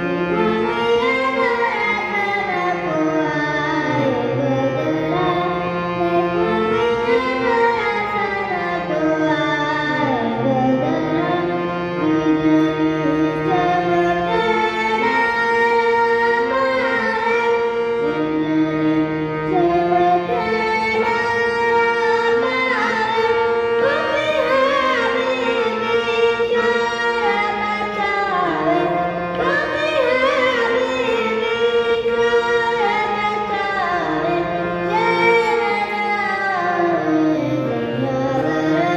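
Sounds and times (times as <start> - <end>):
harmonium: 0.0 - 38.9
person singing classical vocal: 0.1 - 18.8, 19.5 - 38.9.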